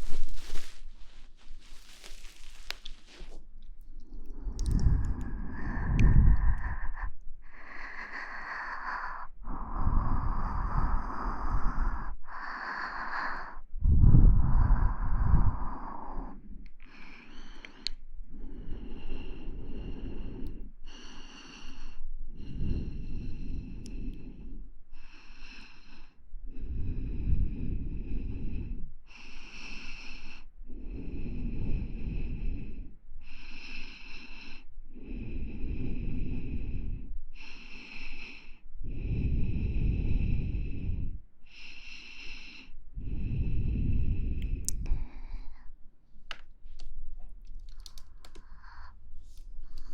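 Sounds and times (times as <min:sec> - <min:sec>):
slow breathing close to microphone: 0:00.0 - 0:49.9.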